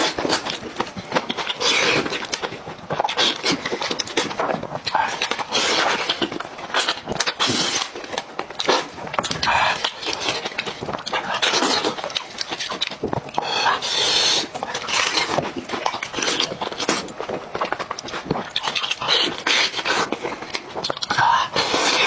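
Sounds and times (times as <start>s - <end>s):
wet chewing and slurping: 0.0s - 22.0s.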